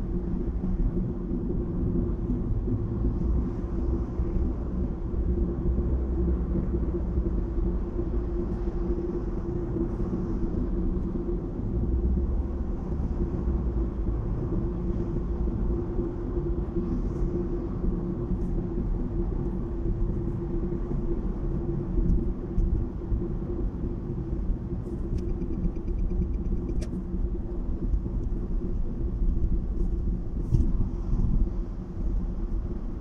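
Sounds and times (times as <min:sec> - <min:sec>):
car tyre and engine rumble: 0:00.0 - 0:33.0.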